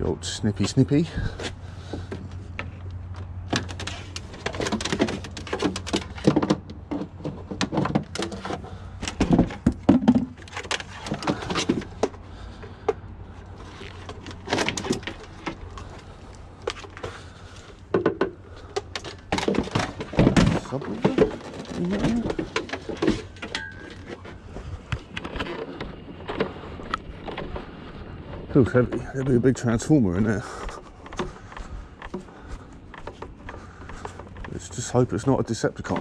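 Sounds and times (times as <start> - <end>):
scrap electronics clunking and rattling: 0.4 - 36.0.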